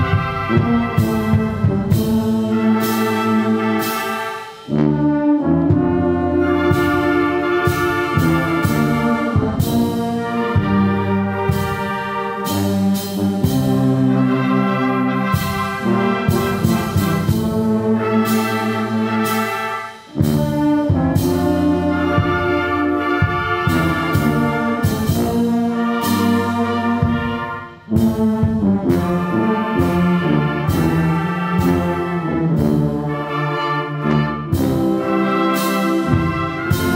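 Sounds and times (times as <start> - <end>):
brass band playing a slow hymn: 0.0 - 36.9.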